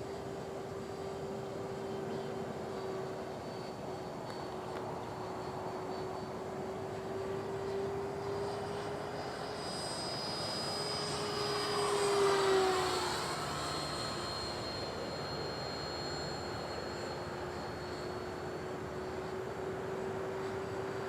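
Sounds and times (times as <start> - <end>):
rc jet fan whine: 0.0 - 21.0.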